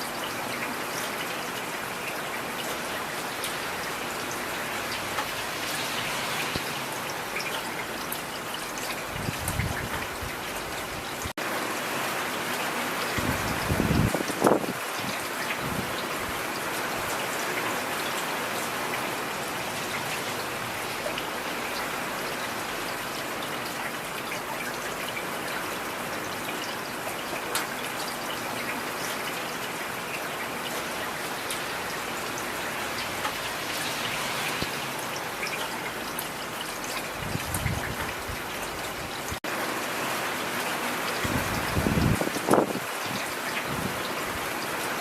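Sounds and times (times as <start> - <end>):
heavy rain: 0.0 - 45.0.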